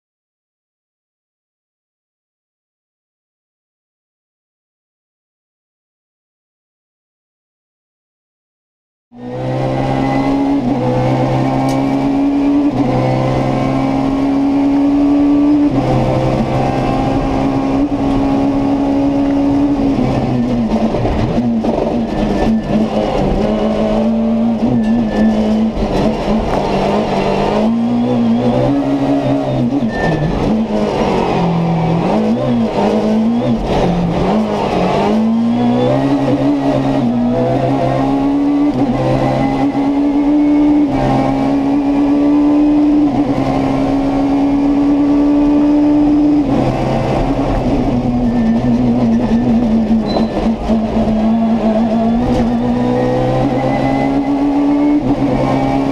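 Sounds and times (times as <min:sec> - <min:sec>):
rally car engine at high revs: 0:09.1 - 0:55.9.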